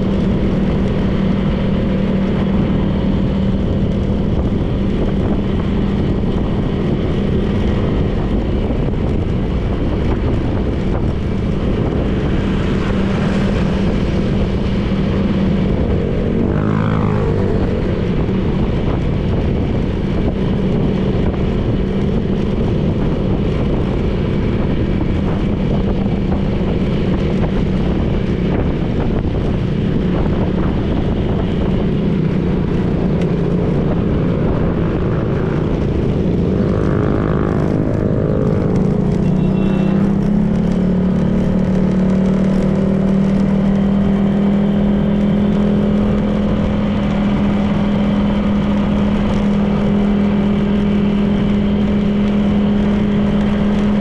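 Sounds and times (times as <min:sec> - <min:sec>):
scooter engine cruising: 0:00.0 - 0:54.0
wind and road noise: 0:00.0 - 0:54.0.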